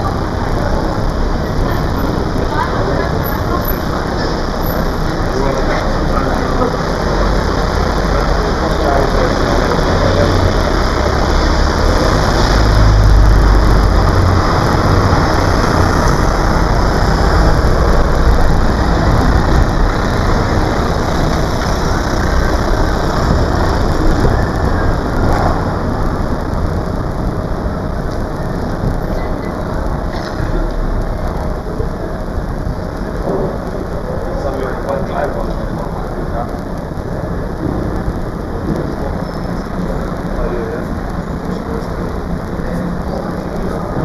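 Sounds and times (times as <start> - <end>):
heavy low rumble with hiss: 0.0 - 44.0.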